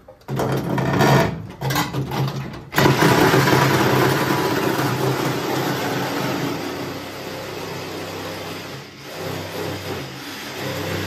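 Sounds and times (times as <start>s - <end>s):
power tool cutting sheet metal: 0.6s - 11.0s.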